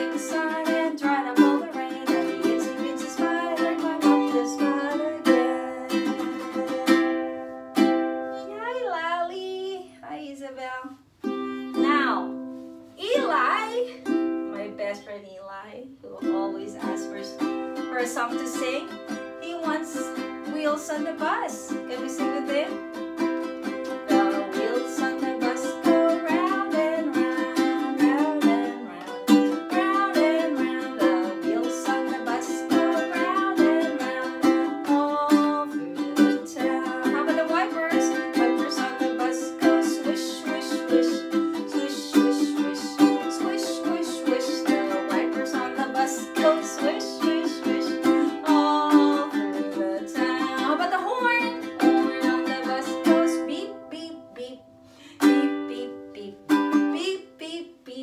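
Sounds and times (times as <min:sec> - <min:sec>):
ukulele strumming: 0:00.0 - 0:09.7, 0:11.1 - 0:15.2, 0:16.1 - 0:57.7
woman singing children's song: 0:00.0 - 0:58.0.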